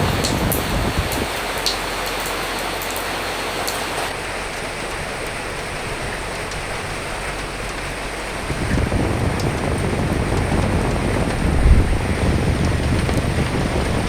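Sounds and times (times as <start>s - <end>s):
rain drop ticks: 0.0s - 14.0s
rain hiss: 0.0s - 14.0s
soft wind: 0.0s - 14.0s.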